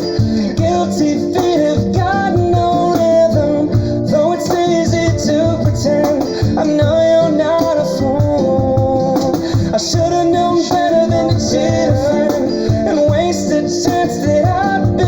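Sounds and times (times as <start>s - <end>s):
cajon beat: 0.0s - 15.0s
slow pop ballad: 0.0s - 15.0s.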